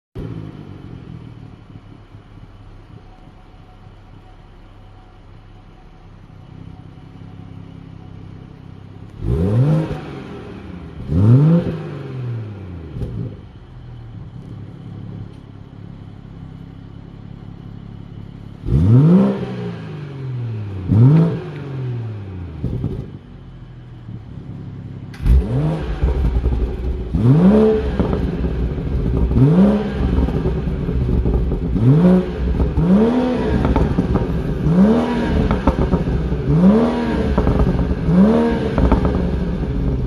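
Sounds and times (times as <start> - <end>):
car engine idling and revving: 0.2 - 40.0.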